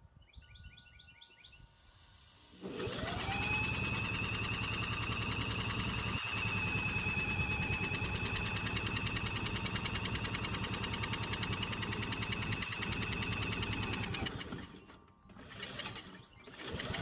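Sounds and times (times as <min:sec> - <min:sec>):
lawn mower engine running: 0:02.4 - 0:17.0.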